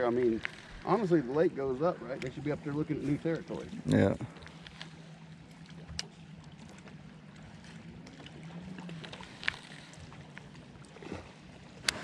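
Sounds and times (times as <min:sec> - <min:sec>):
water and wind noise: 0:00.0 - 0:12.0.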